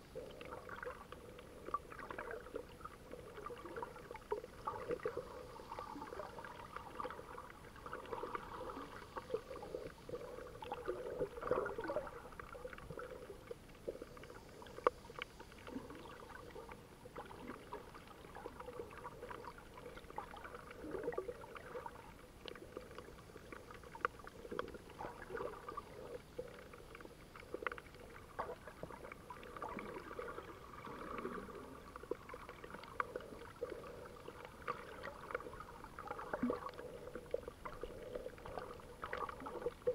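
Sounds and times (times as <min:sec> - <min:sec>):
muffled underwater water movement: 0:00.0 - 0:39.9.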